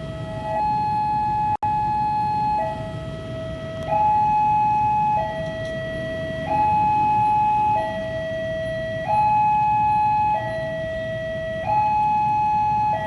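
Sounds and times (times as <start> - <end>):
two-tone hi-lo siren: 0.0 - 13.0.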